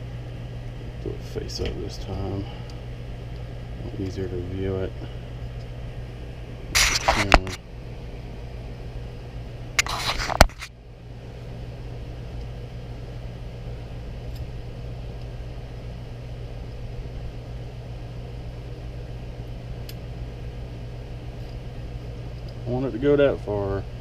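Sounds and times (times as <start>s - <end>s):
fan hum: 0.0s - 24.0s.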